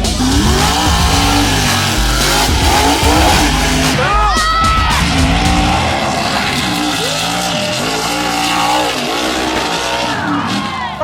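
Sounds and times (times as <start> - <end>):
truck engine revving hard: 0.0 - 11.0.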